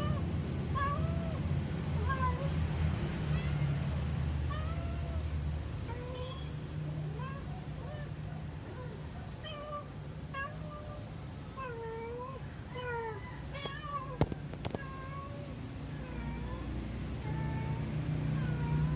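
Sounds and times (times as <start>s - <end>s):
cat meowing: 0.0s - 1.4s, 2.0s - 2.6s, 3.2s - 3.9s, 4.5s - 18.9s.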